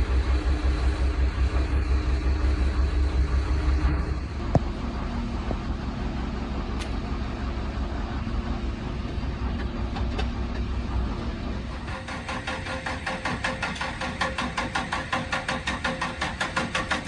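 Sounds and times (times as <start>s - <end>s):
diesel engine rumble: 0.0s - 17.0s.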